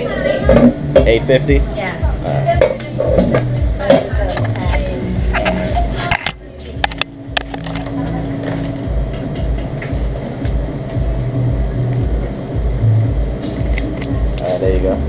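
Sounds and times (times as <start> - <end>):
bass-heavy music beat: 0.0 - 15.0.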